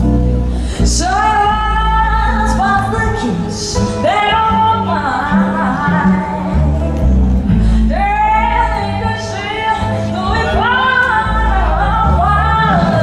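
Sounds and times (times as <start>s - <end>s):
bass line: 0.0s - 13.0s.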